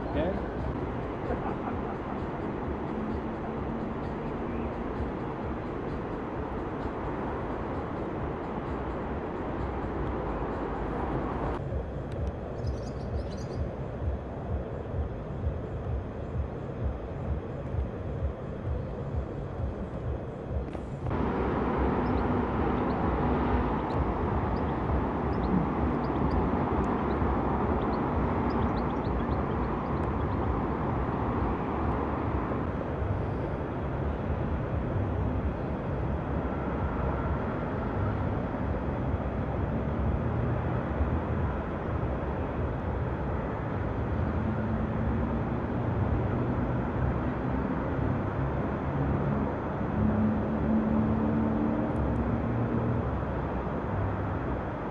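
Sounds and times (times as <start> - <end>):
distant city traffic rumble: 0.0 - 54.9
faint engine hum: 0.0 - 54.9.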